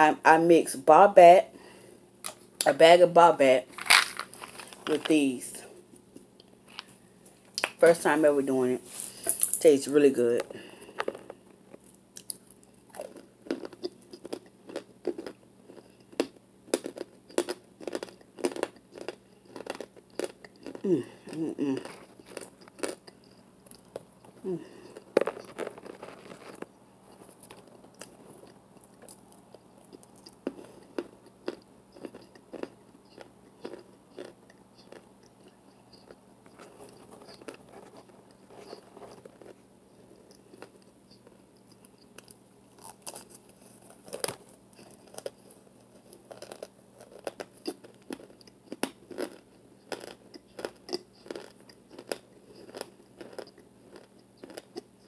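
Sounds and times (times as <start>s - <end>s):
crunching and chewing: 3.7s - 5.1s, 5.9s - 7.8s, 10.4s - 55.0s.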